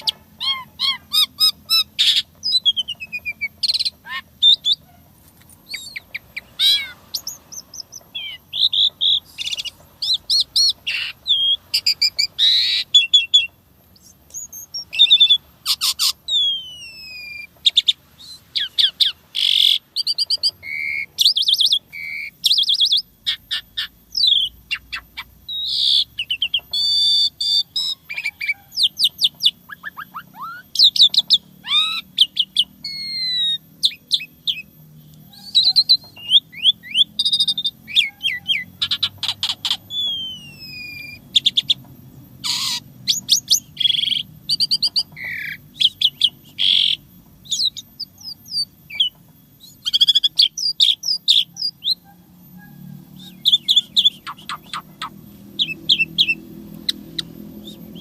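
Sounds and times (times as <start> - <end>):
starling singing varied song: 0.0 - 58.0.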